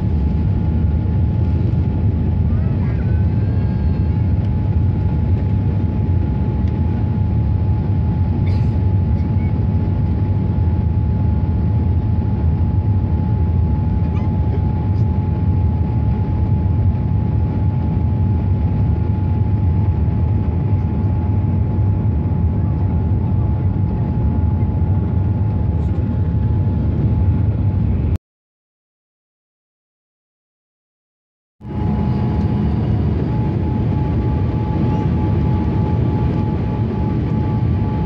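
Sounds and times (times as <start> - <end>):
airplane cabin engine rumble: 0.0 - 28.2, 31.6 - 38.0.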